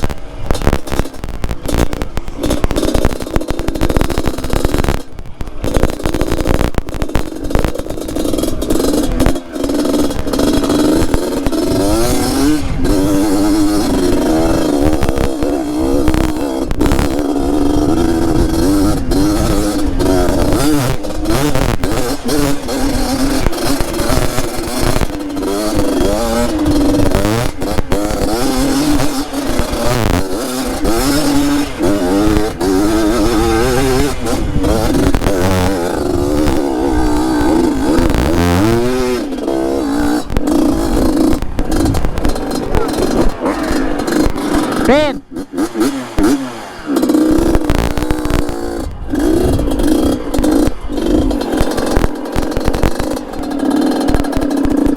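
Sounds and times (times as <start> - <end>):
clatters and knocks: 0.0 - 54.9
motorcycle engine revving: 0.0 - 54.9.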